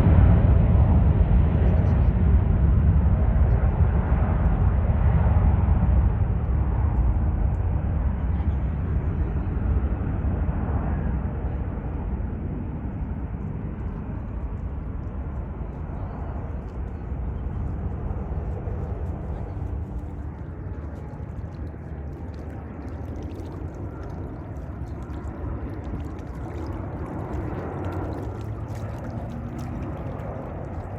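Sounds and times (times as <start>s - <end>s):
jet engines roaring: 0.0s - 30.9s.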